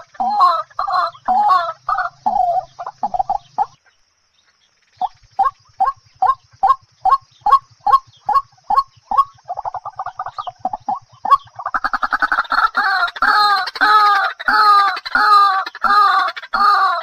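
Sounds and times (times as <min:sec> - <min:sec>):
waterhen calling: 0:00.0 - 0:04.0, 0:04.9 - 0:17.0.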